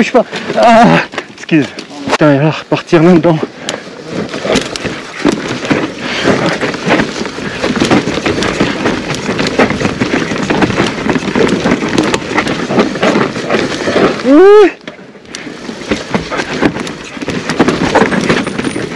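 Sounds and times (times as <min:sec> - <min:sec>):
bike knocking and rattling: 0:00.0 - 0:18.9
bike tyres on dirt: 0:00.0 - 0:18.9.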